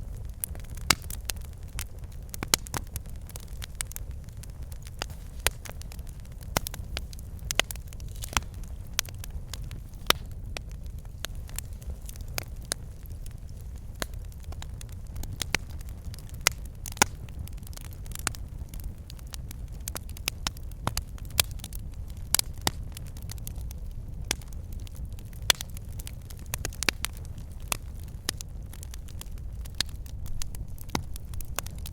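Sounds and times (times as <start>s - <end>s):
fire rumbling: 0.0s - 31.9s
logs crackling and popping: 0.0s - 31.9s.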